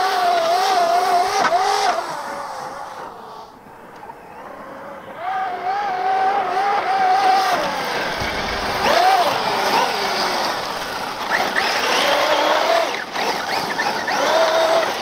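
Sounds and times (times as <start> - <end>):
electric motor whining: 0.0 - 15.0
tires sliding through dirt: 0.0 - 15.0.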